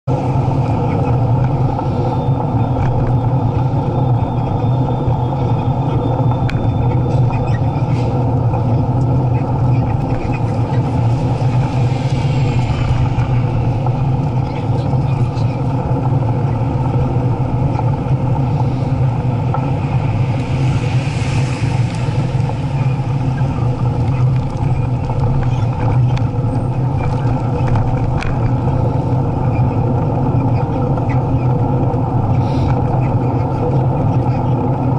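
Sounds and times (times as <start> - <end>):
bicycle riding rumble: 0.0 - 34.9
street traffic: 0.0 - 34.9.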